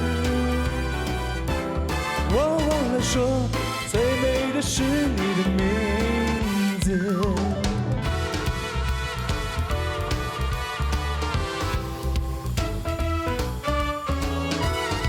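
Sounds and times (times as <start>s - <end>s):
live pop band: 0.0s - 15.0s
sliding lead melody: 0.0s - 15.0s.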